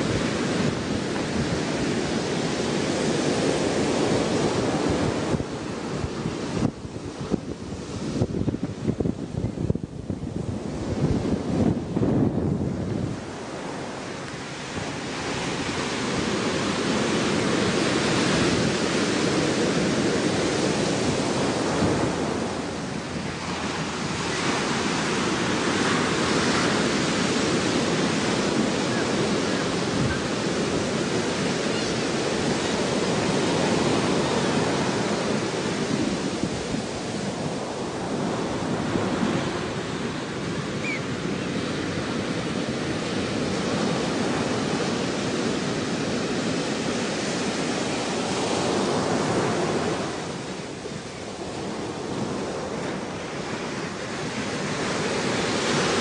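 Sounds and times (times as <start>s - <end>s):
ocean surf washing on shore: 0.0s - 56.0s.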